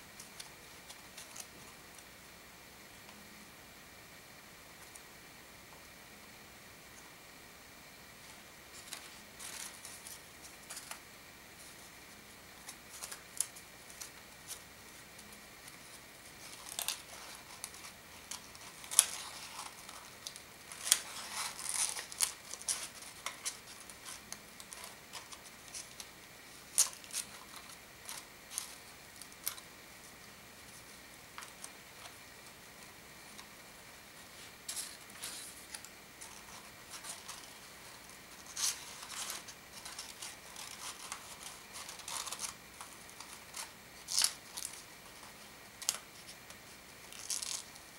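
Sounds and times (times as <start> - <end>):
paper rustling and crinkling: 8.2 - 11.0, 11.6 - 47.9.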